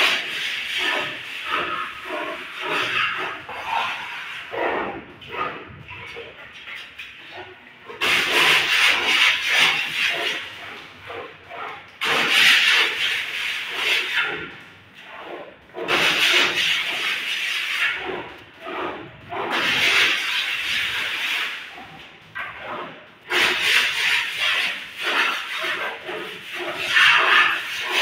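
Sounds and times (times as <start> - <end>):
plastering tool scraping wall: 0.0 - 28.0.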